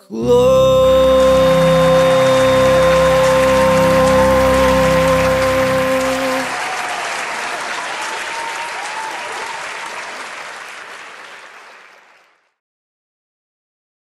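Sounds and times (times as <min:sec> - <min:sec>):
people applauding: 0:00.8 - 0:12.6.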